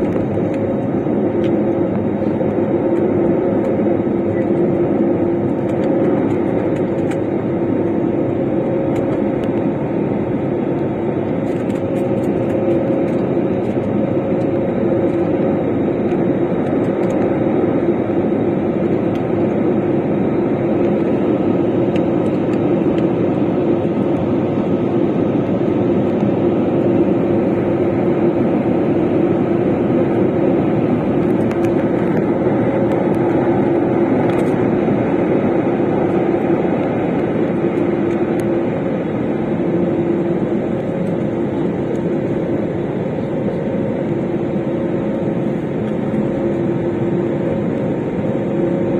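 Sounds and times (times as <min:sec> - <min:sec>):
airliner engines in cabin: 0:00.0 - 0:48.9.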